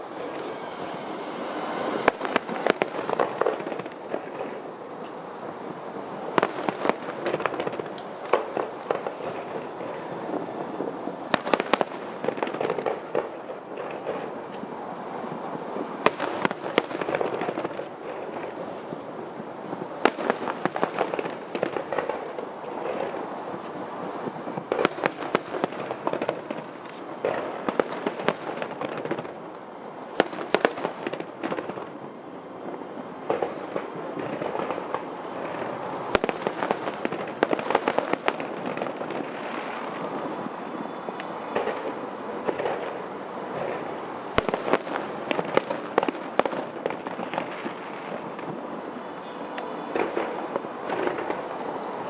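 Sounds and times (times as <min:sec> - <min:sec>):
steady background noise: 0:00.0 - 0:52.0.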